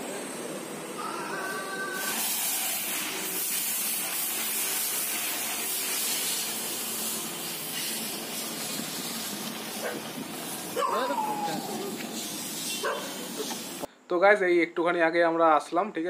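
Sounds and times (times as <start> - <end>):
loud hiss of spraying water: 0.0 - 13.9.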